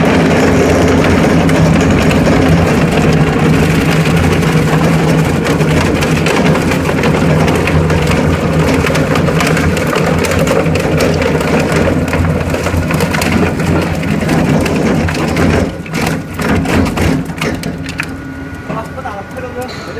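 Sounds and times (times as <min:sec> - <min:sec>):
plastic crackling in shredder: 0:00.0 - 0:19.9
shredder motor hum: 0:00.0 - 0:19.9.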